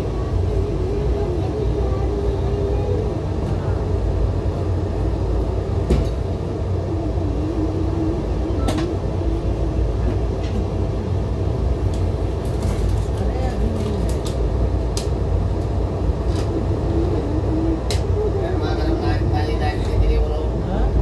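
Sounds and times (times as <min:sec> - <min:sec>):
train rumbling inside coach: 0:00.0 - 0:21.0.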